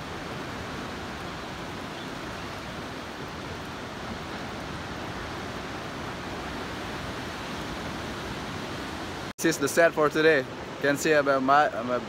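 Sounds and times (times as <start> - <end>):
distant ocean surf: 0.0 - 12.0.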